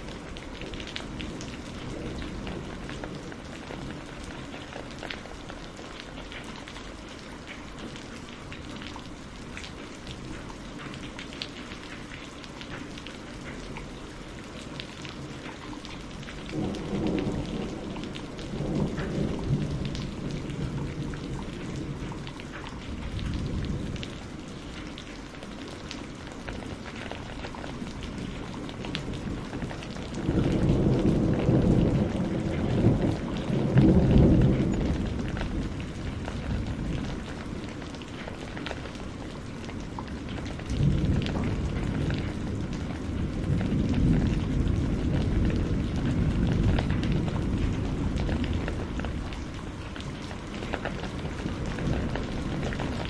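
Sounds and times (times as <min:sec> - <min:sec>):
thunder rumbling: 0:00.0 - 0:07.0, 0:16.2 - 0:25.8, 0:26.4 - 0:53.0
rain pattering: 0:00.0 - 0:53.0.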